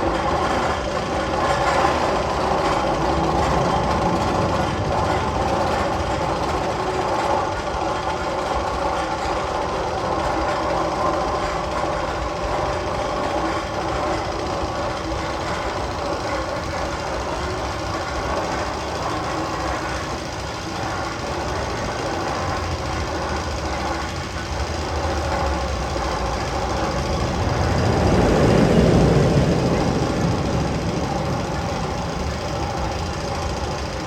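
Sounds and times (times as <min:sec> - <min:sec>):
mechanical rumble with hum and knocking: 0:00.0 - 0:34.0.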